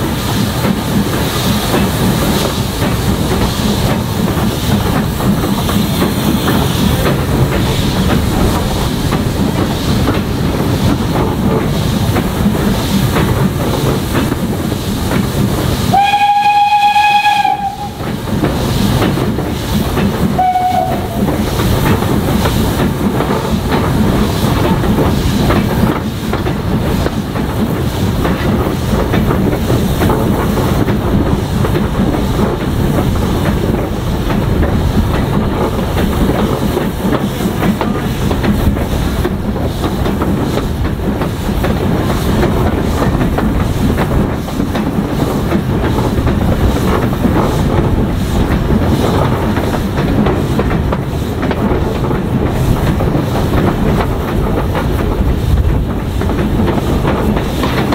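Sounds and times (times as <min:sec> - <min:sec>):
steam train running: 0:00.0 - 0:57.9.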